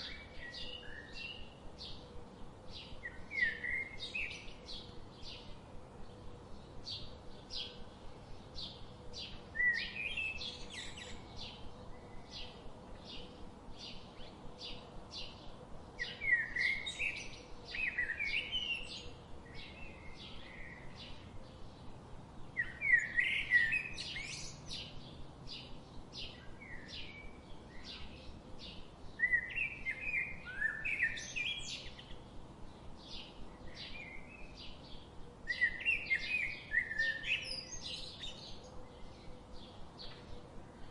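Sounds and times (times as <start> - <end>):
bird warbling song: 0.0 - 2.1, 2.7 - 40.9.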